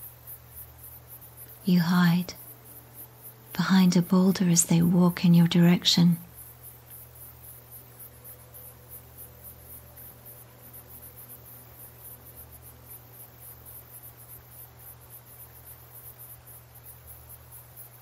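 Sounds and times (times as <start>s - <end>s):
crickets chirping: 0.0s - 18.0s
low steady hum: 0.0s - 18.0s.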